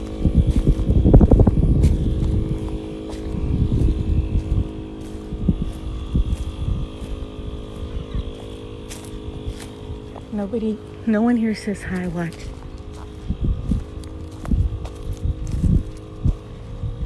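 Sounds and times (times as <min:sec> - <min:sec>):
steady motor hum: 0:00.0 - 0:17.0
wind buffeting microphone: 0:00.0 - 0:17.0.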